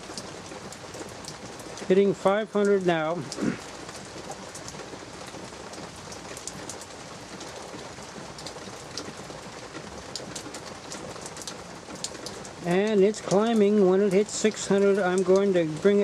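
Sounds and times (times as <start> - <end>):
light drizzle falling: 0.0 - 16.0
sharp ticks of raindrops: 0.0 - 16.0.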